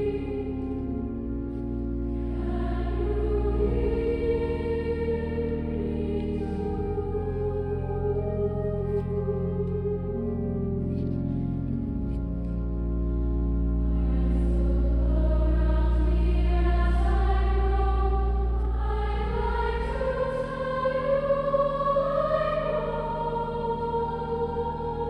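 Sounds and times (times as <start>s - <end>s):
choir singing: 0.0s - 11.1s, 13.6s - 25.0s.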